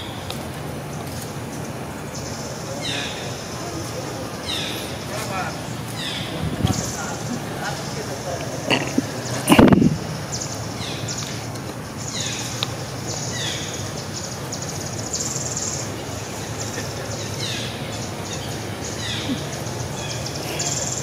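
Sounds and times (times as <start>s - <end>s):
birds chirping: 0.0s - 21.0s
insects buzzing calls: 0.0s - 21.0s.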